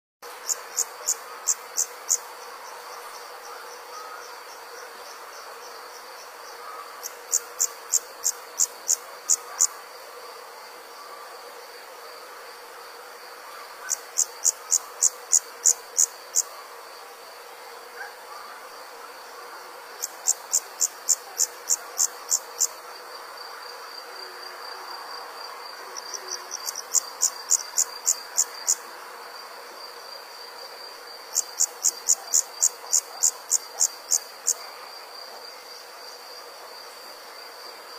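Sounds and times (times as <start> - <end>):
insect chirping: 0.3 - 37.9.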